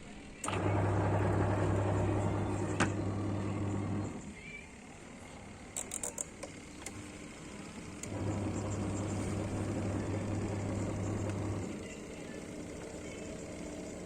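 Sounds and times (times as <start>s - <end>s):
washing machine motor churning: 0.2s - 14.0s.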